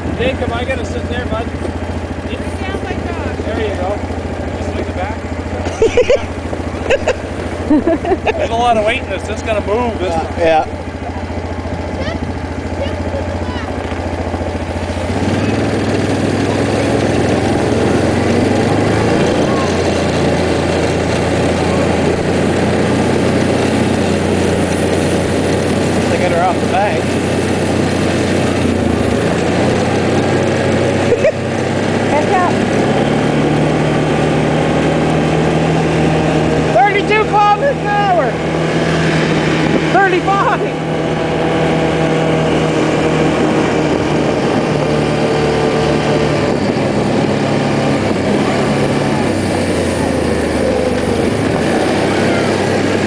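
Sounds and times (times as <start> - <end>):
small vehicle engine droning: 0.0 - 53.0.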